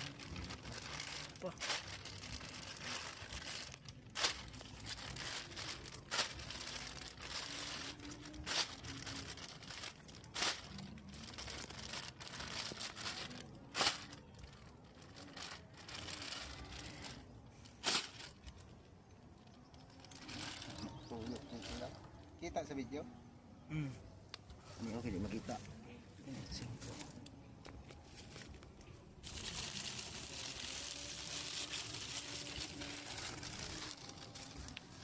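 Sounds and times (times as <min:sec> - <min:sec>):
plastic bag crinkling: 0:00.0 - 0:22.2, 0:28.3 - 0:35.0.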